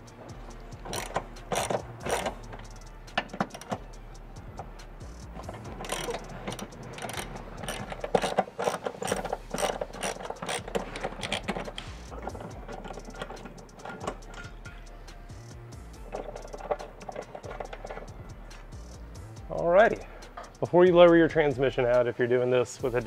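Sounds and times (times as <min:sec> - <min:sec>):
ratchet clicking: 0:00.1 - 0:20.7.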